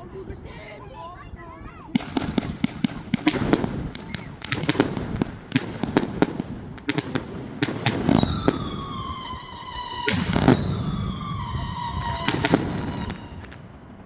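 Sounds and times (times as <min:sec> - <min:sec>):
firework bangs and cracks: 0:01.9 - 0:14.0
whistling firework shots: 0:02.0 - 0:14.0.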